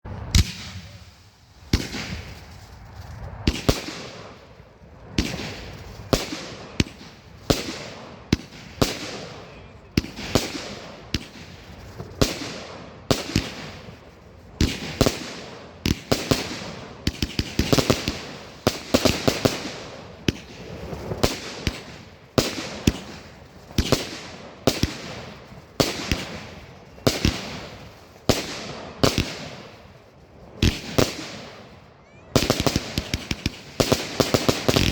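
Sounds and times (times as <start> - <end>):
fireworks bangs: 0.1 - 34.9.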